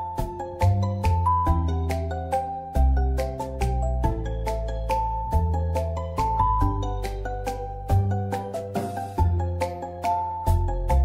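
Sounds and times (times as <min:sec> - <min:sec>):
bright melody over held bass: 0:00.0 - 0:11.0.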